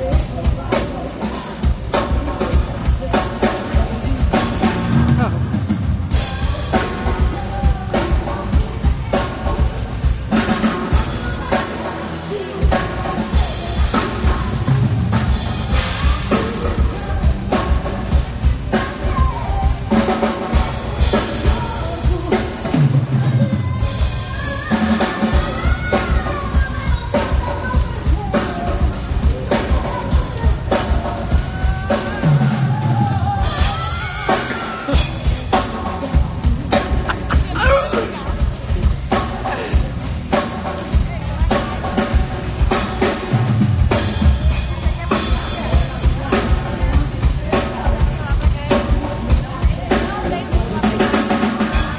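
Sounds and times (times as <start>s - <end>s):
woman singing: 0.0s - 5.2s, 6.1s - 51.9s
drum kit beating: 0.0s - 51.9s
live pop band playing: 0.0s - 51.9s.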